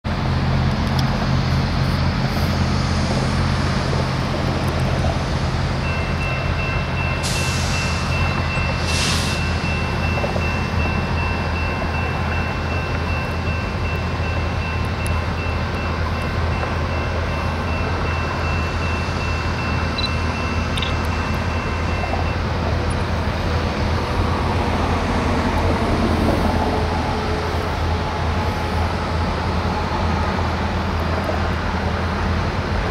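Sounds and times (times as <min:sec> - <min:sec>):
diesel locomotive engine rumble: 0:00.0 - 0:32.9.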